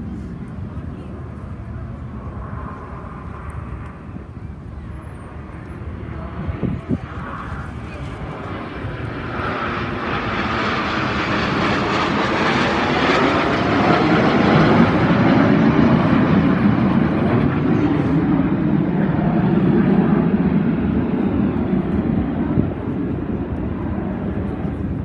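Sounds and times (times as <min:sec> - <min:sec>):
aircraft flying past: 0:00.0 - 0:25.0.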